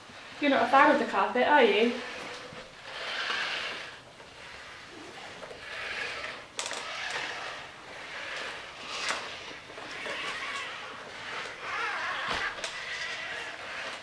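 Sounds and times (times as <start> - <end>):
robot motors whirring: 1.8 - 14.0.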